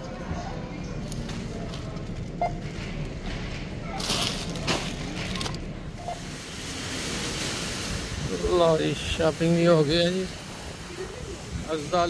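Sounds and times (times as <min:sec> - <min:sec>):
groceries rustling and clattering: 0:00.0 - 0:12.0
traffic: 0:00.0 - 0:12.0.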